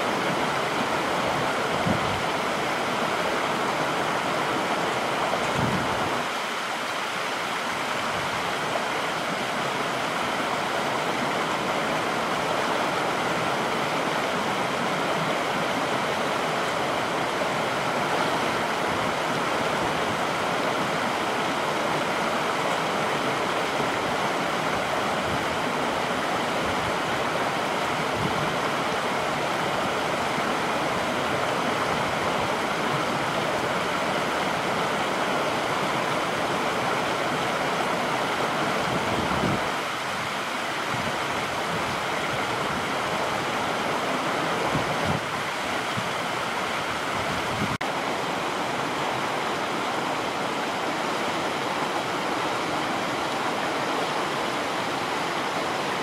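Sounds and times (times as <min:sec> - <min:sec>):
water rushing under metal gate: 0:00.0 - 0:56.0.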